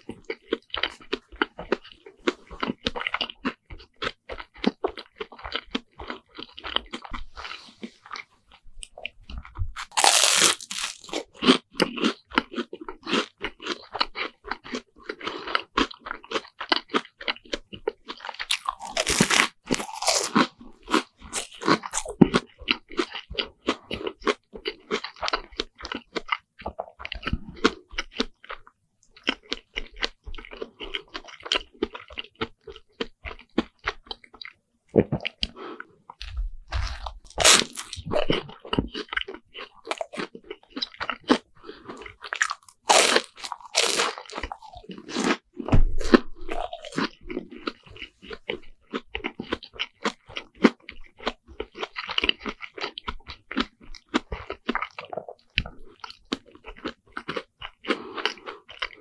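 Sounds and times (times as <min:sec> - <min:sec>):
chewing crunchy fried bread: 0:00.0 - 0:59.0.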